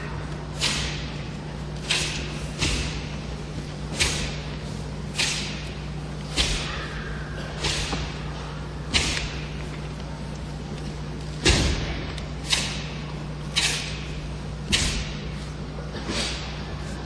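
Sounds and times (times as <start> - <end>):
sharp slapping impacts echoing: 0.3 - 10.0, 11.4 - 15.4.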